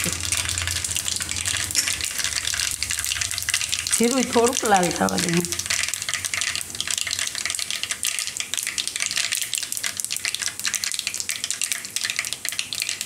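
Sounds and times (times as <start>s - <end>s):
seeds crackling in hot oil: 0.0s - 13.0s.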